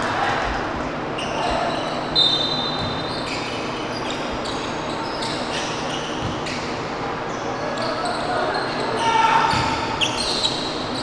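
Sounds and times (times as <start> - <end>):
sneakers squeaking on floor: 1.1 - 11.0.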